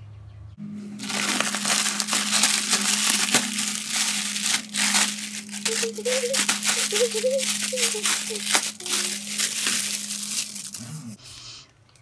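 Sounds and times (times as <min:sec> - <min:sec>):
plastic bag tearing: 0:01.0 - 0:11.2
plastic packaging crinkling: 0:01.0 - 0:11.2.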